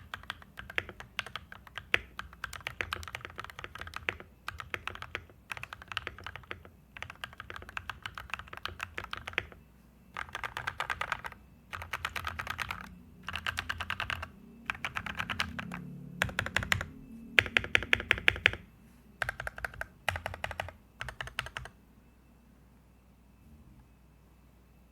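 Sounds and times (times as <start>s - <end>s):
mechanical keyboard typing: 0.0s - 9.6s, 10.2s - 21.8s.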